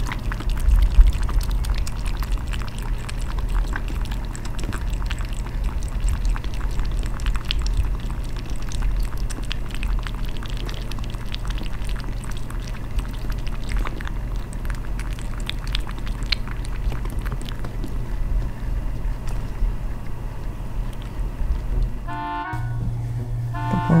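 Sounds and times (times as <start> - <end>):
kitten splashing water: 0.0 - 22.1
water fountain bubbling: 0.0 - 22.1
steady low hum: 0.0 - 24.0.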